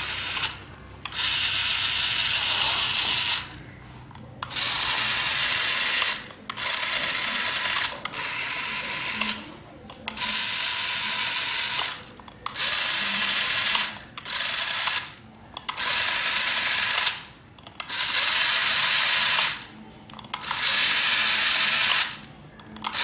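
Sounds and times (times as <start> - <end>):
small gear motors whirring: 0.0 - 3.6, 4.4 - 23.0.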